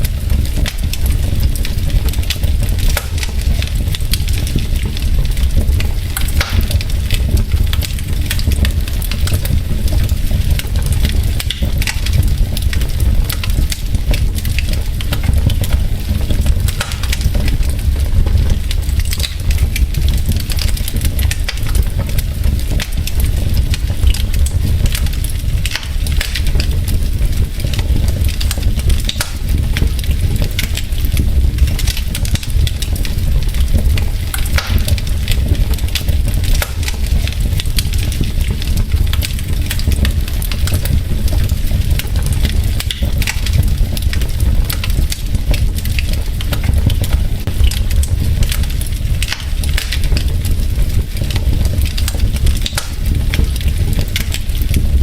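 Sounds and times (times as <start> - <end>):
logs crackling in fire: 0.0 - 55.0
low fire rumble: 0.0 - 55.0.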